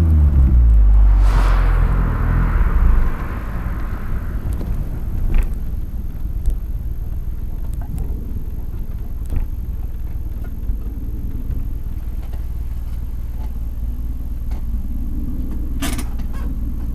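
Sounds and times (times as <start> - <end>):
car exhaust low rumble: 0.0 - 16.9.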